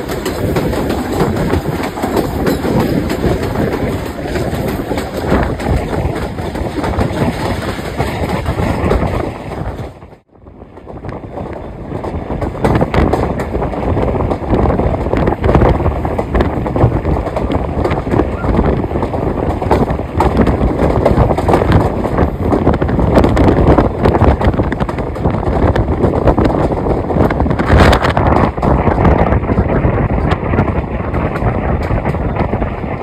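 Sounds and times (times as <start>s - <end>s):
train wheels on rails: 0.0s - 33.0s
wind buffeting microphone: 0.0s - 33.0s.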